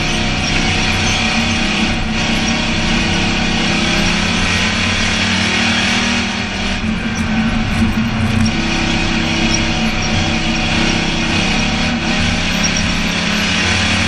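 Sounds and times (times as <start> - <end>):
race car engine: 0.0 - 14.0
road and wind noise: 0.0 - 14.0.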